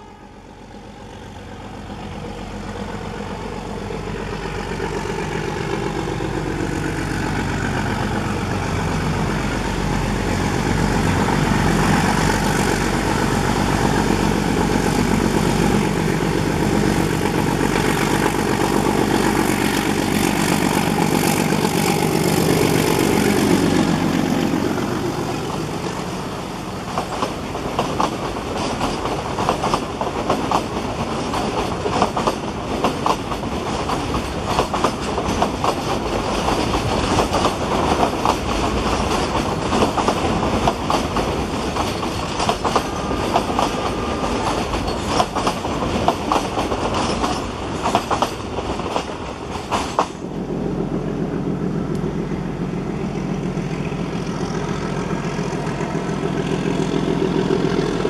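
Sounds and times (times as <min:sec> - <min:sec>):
diesel locomotive engine passing: 0:00.0 - 0:58.0
train wheels clattering over rail joints: 0:02.2 - 0:50.4.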